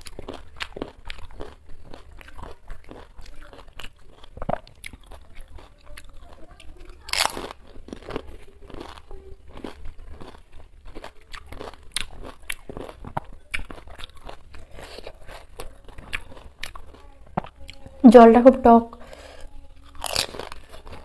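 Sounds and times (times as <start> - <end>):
crunching and chewing crisp food: 0.0 - 18.0, 19.0 - 21.0.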